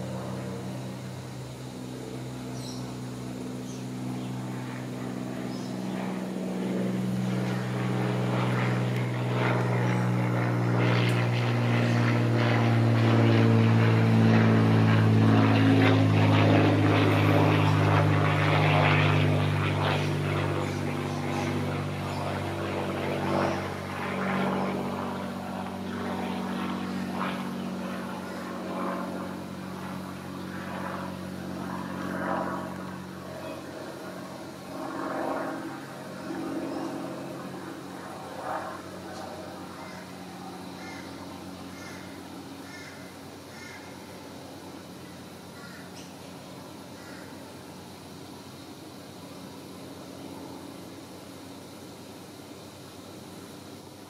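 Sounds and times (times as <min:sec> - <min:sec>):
engine drone: 0:00.0 - 0:54.0.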